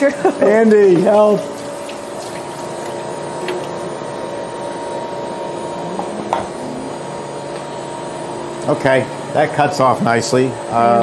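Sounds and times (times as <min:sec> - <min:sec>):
batch freezer running: 0:00.0 - 0:11.0.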